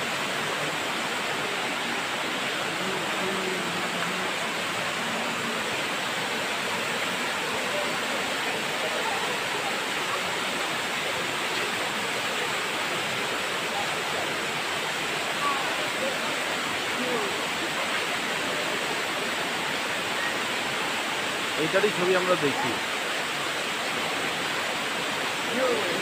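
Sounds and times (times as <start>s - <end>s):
waterfall rushing over rock: 0.0s - 26.0s.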